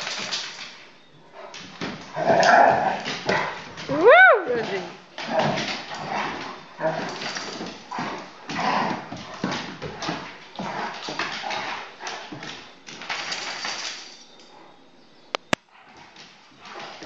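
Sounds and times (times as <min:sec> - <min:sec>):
claws clattering on wooden floor: 0:00.0 - 0:00.9, 0:01.5 - 0:14.4
dogs play-fighting: 0:00.0 - 0:14.8, 0:15.6 - 0:17.0.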